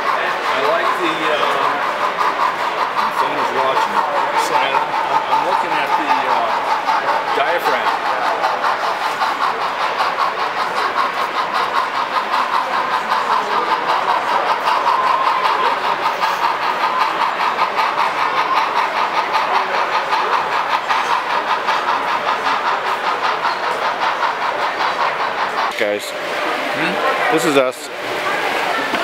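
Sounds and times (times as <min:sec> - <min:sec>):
model train whirring and clattering: 0:00.0 - 0:29.0.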